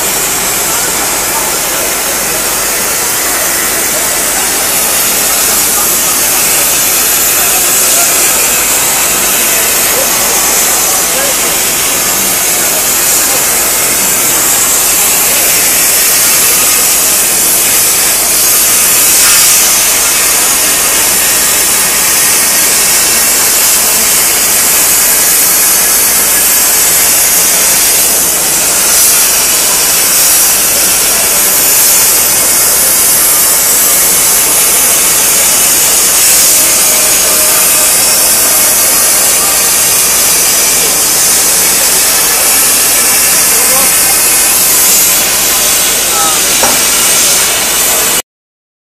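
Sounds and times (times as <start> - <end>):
cutting torch hissing: 0.0 - 48.2.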